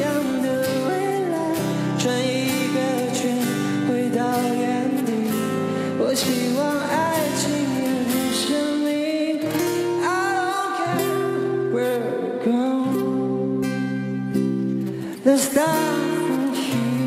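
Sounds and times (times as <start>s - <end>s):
acoustic guitar chords: 0.0s - 17.0s
man singing slow pop song: 0.0s - 17.0s.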